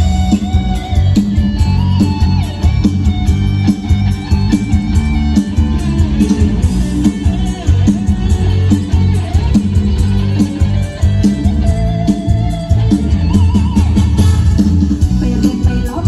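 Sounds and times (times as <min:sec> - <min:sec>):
live band music through pa: 0:00.0 - 0:16.0.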